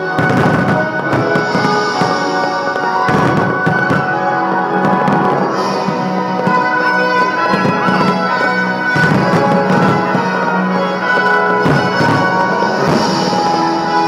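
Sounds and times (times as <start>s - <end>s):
firework bangs: 0.0s - 14.0s
orchestral music: 0.0s - 14.0s.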